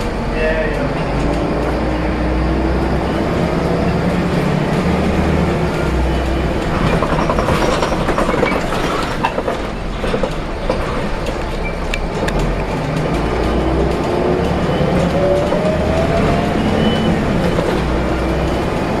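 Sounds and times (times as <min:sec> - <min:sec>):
bus body rattling: 0:00.0 - 0:19.0
bus engine drone with whine: 0:00.0 - 0:19.0.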